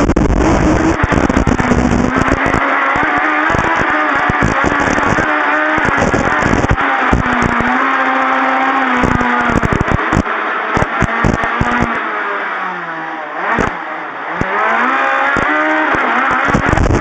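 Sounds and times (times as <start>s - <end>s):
rally car engine at high revs: 0.0s - 17.0s.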